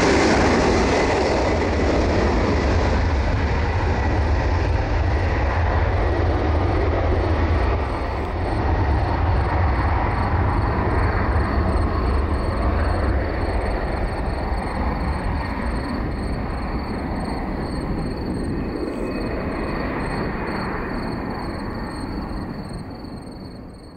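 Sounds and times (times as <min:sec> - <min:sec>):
jet engines roaring at takeoff: 0:00.0 - 0:23.9.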